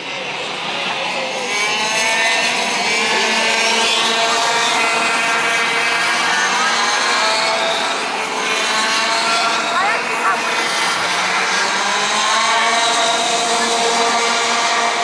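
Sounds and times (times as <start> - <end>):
racing kart engines: 0.0 - 15.0.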